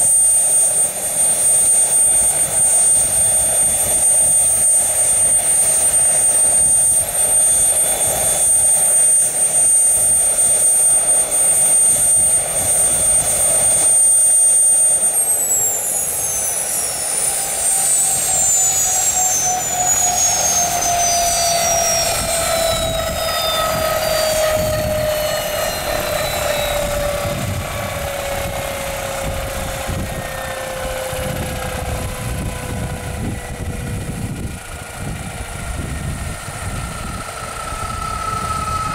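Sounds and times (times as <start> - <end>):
helicopter turbine whining: 0.0 - 38.9.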